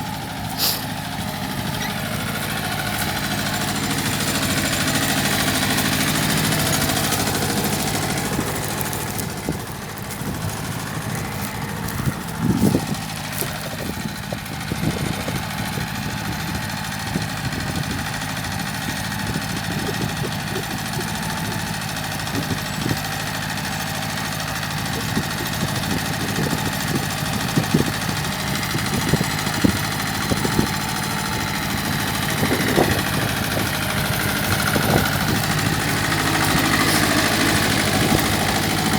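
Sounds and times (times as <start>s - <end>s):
plough clunks and rattles: 0.0s - 38.9s
tractor engine running: 0.0s - 38.9s.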